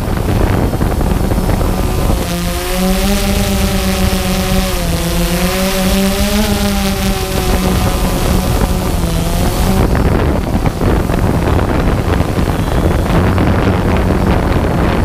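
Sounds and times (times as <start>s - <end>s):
drone motors humming: 0.0s - 15.0s
wind rushing across microphone: 0.0s - 15.0s.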